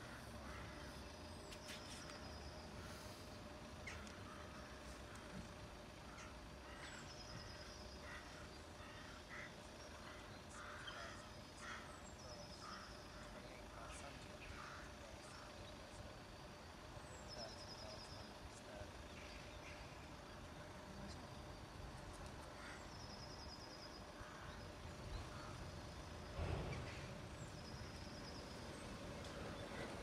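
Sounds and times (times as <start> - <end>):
faint steady hum: 0.0 - 30.0
small birds trilling: 0.0 - 30.0.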